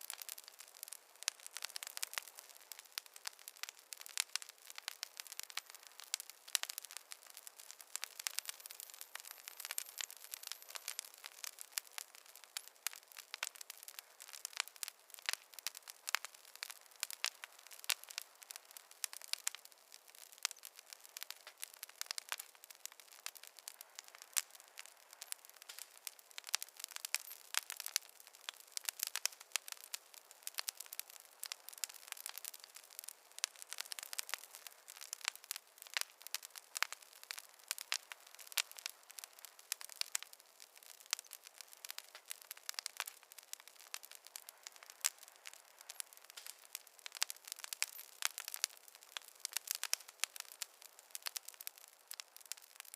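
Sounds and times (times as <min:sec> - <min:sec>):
fire crackling and popping: 0:00.0 - 0:52.9.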